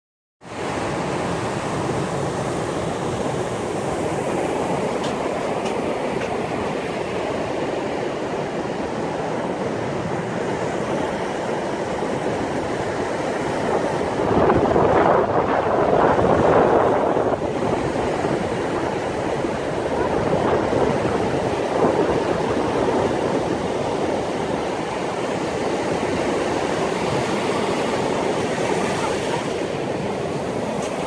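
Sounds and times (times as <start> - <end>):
surf washing on beach: 0.4 - 31.0.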